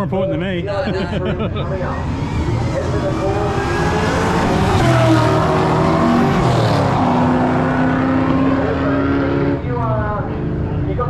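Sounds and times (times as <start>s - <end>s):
car engines driving past: 1.4s - 11.0s.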